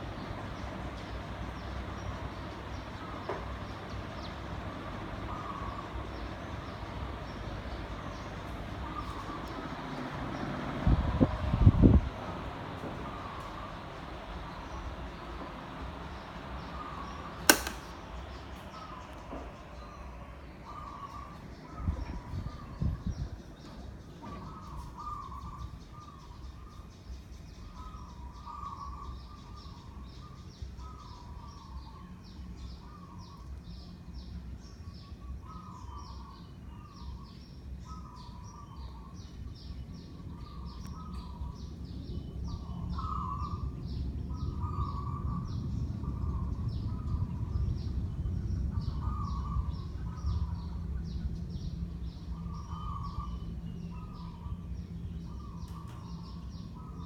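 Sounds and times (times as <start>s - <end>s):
low steady hum and rumble: 0.0s - 57.0s.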